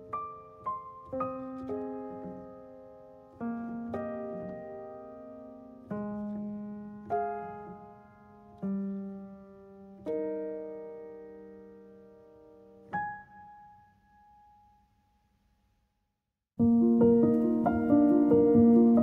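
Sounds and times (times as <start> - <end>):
slow piano chords: 0.0 - 14.9, 16.6 - 19.0.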